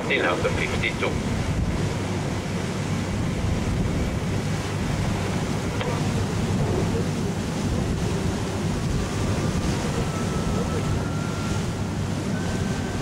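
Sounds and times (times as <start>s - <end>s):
boat engine rumble: 0.0s - 13.0s
water rushing past hull: 0.0s - 13.0s
wind buffeting microphone: 0.0s - 13.0s.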